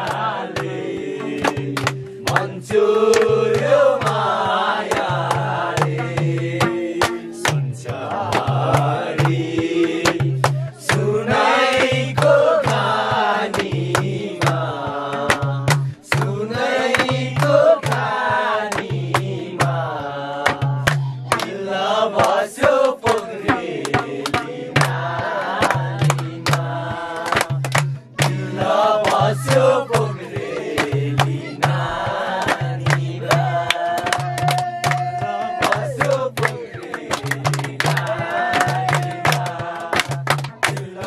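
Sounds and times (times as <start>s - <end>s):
steady percussive beat: 0.0s - 41.0s
voices singing folk song: 0.0s - 41.0s.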